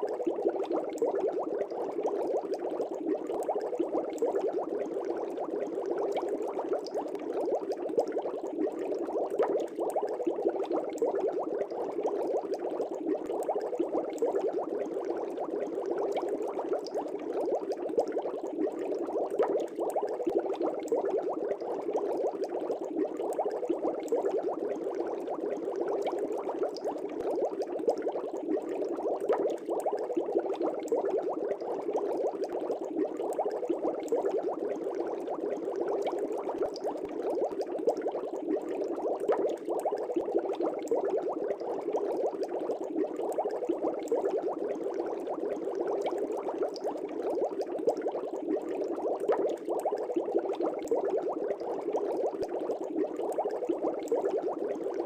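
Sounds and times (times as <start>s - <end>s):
aquarium bubbling: 0.0s - 55.0s.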